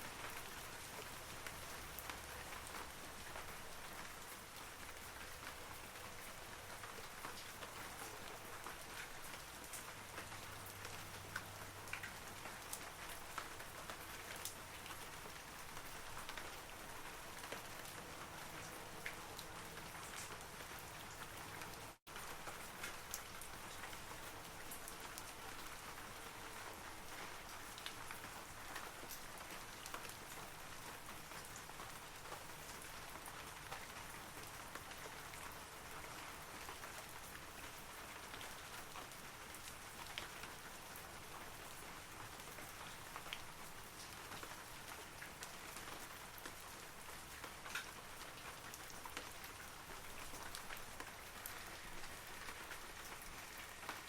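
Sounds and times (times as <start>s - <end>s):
rain falling on trees: 0.0s - 54.0s.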